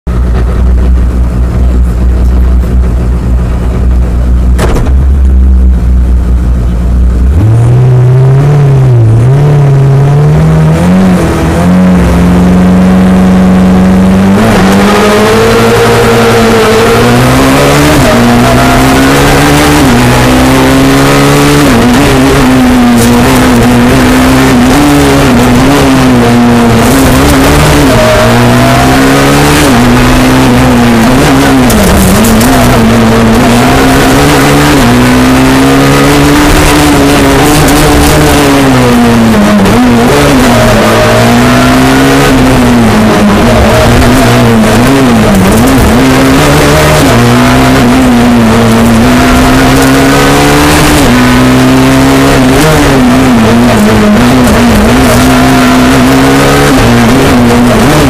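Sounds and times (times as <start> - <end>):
rally car engine revving: 0.1 - 58.0
tyre and road noise: 0.1 - 58.0.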